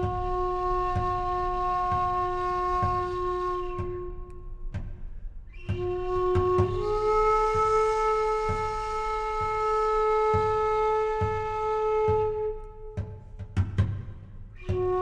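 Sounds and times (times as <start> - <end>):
flute long note: 0.0 - 4.7, 5.5 - 13.2, 14.6 - 15.0
slow drum beat: 0.0 - 15.0.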